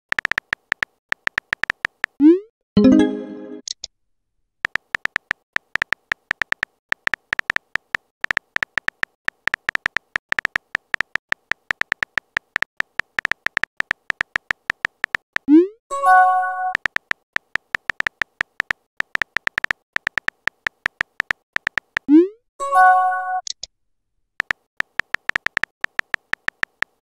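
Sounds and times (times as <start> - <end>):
keyboard typing clicks: 0.1 - 3.9, 4.6 - 15.6, 16.4 - 22.2, 24.4 - 27.0.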